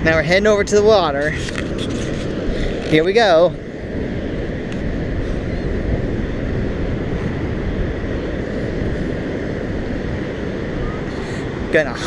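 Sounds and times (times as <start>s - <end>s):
ocean surf: 0.0s - 12.0s
wind: 0.0s - 12.0s.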